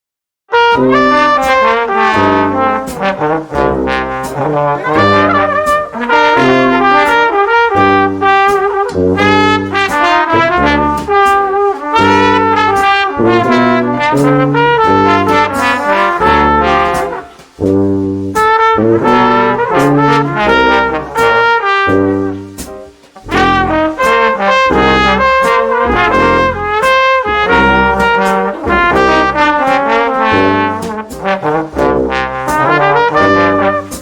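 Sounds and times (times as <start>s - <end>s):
upbeat brass music: 0.5s - 34.0s.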